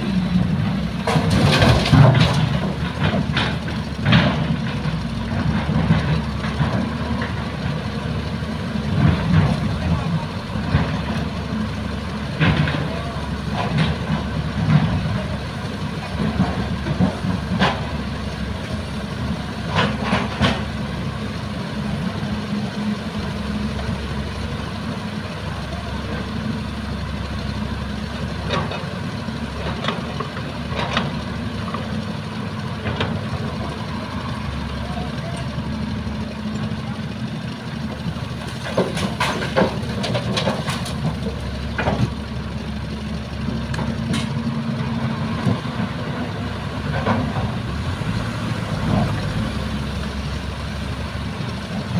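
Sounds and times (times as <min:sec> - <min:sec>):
diesel excavator engines running: 0:00.0 - 0:51.9.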